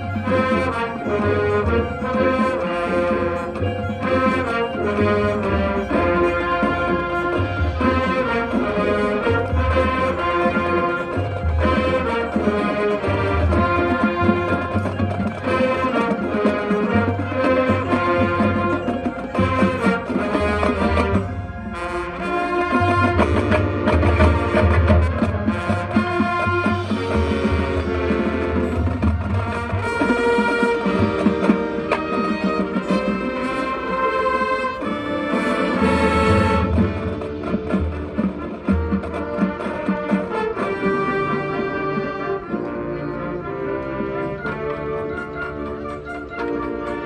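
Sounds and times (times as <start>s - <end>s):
percussion hits: 0.0s - 42.7s
marching band playing: 0.0s - 47.0s.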